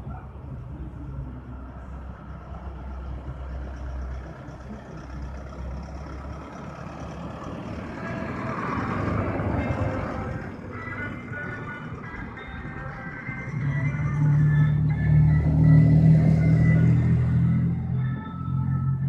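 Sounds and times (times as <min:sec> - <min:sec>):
truck engine rumbling: 0:00.0 - 0:19.0
vehicle passing close: 0:02.1 - 0:19.0.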